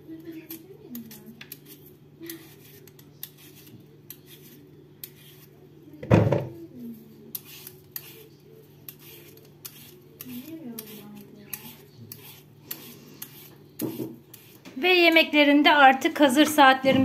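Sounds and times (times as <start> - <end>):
peeler scraping potato: 0.1 - 5.7, 6.8 - 16.6.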